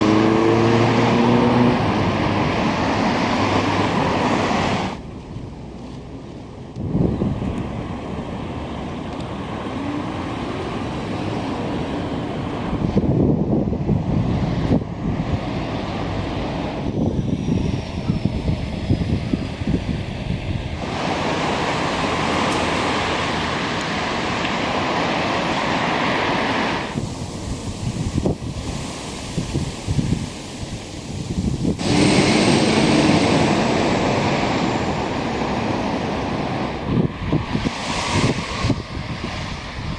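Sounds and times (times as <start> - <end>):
engine hum: 0.0 - 39.9
gusty wind buffeting microphone: 0.0 - 39.9
passing vehicles rushing hiss: 0.0 - 39.9.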